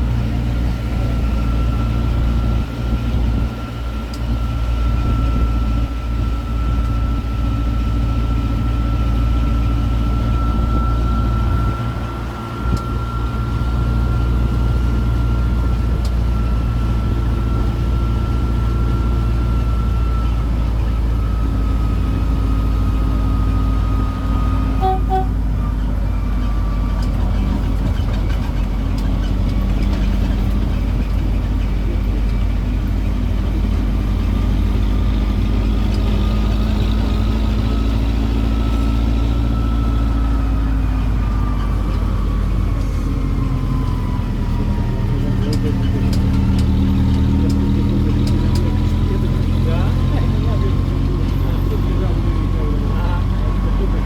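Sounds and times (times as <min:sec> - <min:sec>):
train engine drone and whine: 0:00.0 - 0:54.0.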